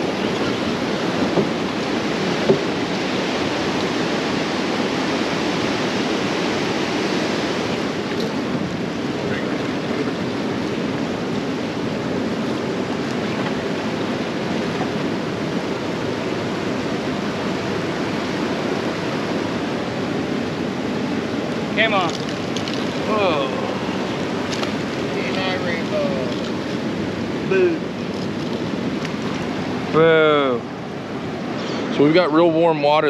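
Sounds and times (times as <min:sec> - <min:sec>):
wind buffeting microphone: 0:00.0 - 0:32.7
river current rushing: 0:00.0 - 0:33.0.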